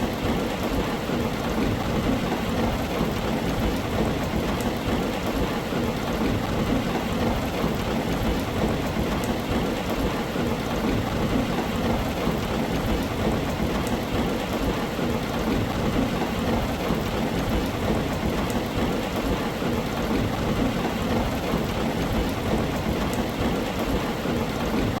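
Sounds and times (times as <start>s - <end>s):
heavy rain on a tin roof: 0.0s - 25.0s.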